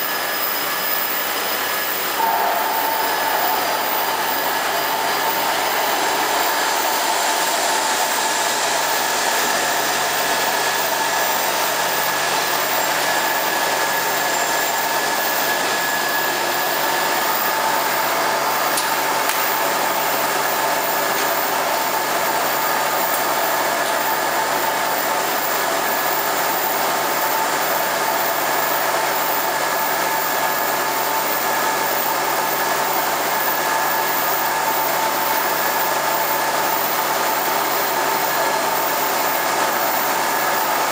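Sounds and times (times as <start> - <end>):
machine fan whir with whine: 0.0 - 40.9.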